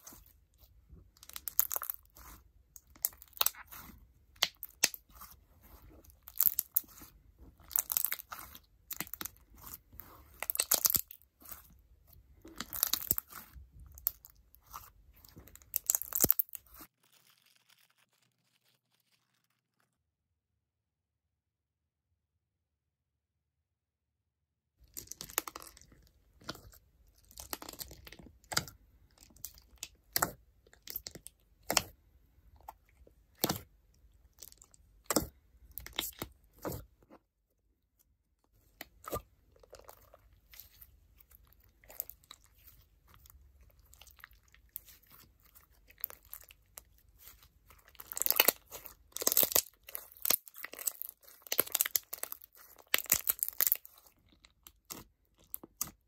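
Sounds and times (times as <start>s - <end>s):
crunchy slime crackling and clicking: 1.0s - 5.1s, 6.1s - 11.8s, 12.4s - 19.6s, 24.8s - 33.7s, 34.3s - 36.8s, 38.7s - 56.0s.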